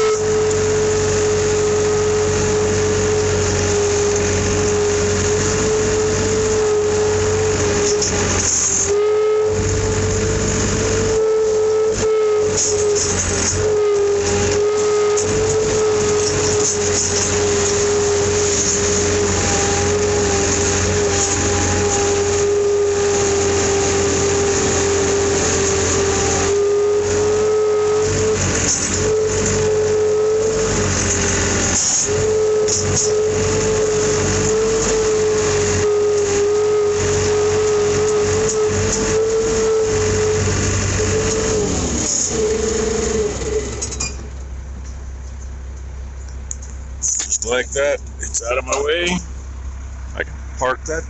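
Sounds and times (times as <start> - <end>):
vehicle engine whining: 0.0 - 51.0.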